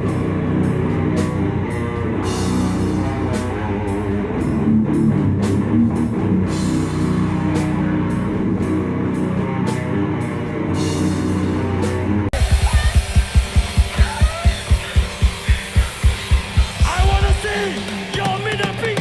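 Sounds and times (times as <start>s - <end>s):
death metal band playing live: 0.0s - 19.0s.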